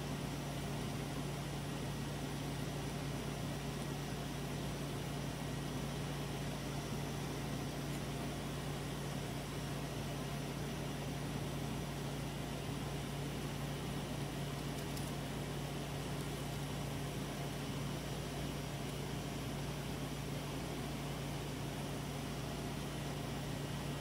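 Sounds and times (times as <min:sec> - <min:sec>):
constant hiss: 0:00.0 - 0:24.0.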